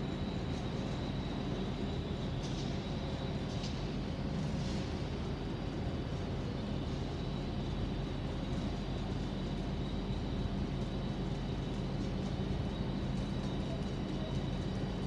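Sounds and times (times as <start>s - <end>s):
faint high whine: 0.0s - 15.0s
trains idling low drone: 0.0s - 15.0s.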